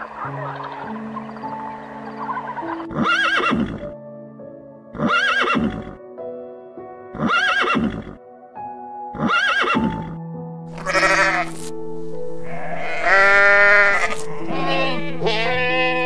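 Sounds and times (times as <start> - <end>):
background music with sustained notes: 0.0 - 16.0.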